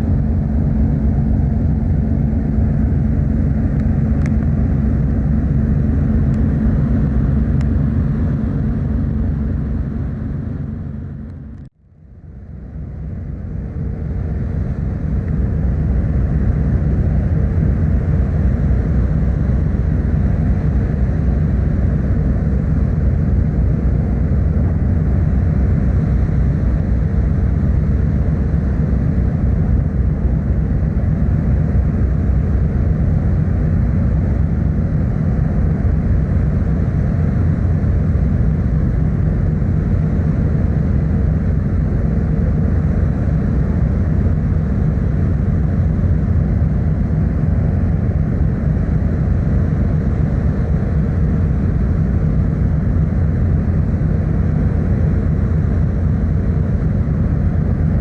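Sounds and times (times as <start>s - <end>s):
ship engine drone: 0.0s - 58.0s.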